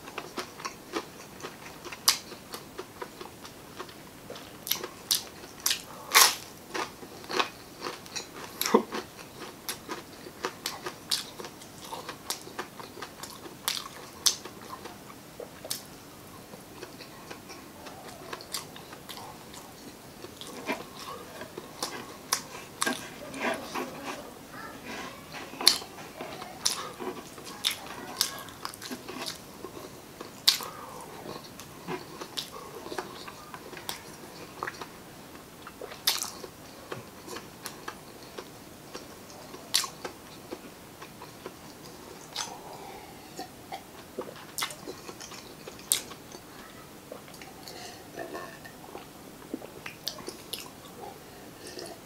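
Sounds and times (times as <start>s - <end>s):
close-miked chewing: 0.0s - 52.0s.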